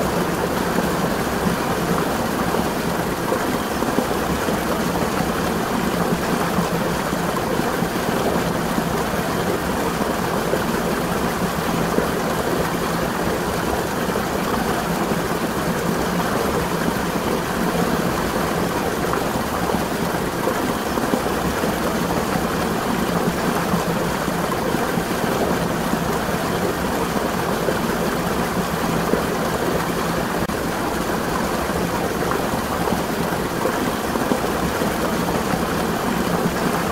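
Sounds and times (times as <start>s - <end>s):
spring water splashing: 0.0s - 36.9s.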